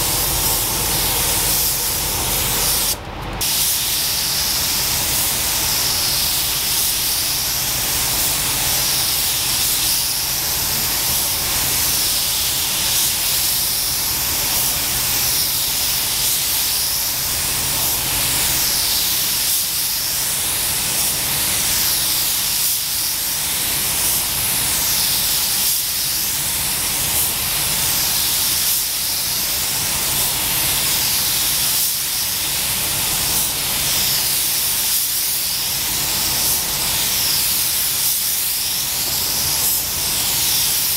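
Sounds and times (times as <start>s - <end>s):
paint spray gun hissing: 0.0s - 40.9s.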